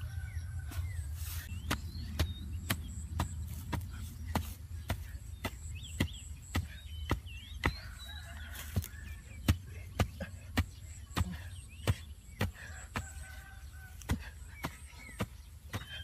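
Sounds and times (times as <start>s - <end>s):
faint bird chirps: 0.0s - 16.0s
digging stick chopping into soil: 1.2s - 16.0s.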